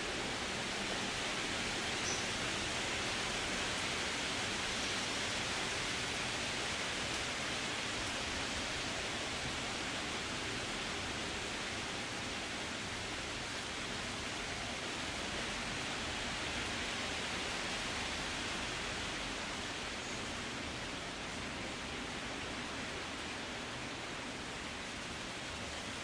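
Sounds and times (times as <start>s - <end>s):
wind through trees: 0.0s - 26.0s.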